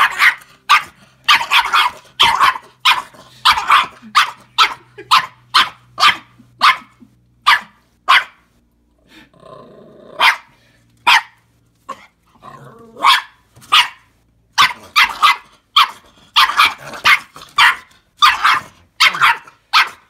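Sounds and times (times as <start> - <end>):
puppy barking: 0.0 - 8.5, 10.2 - 12.1, 12.9 - 20.0.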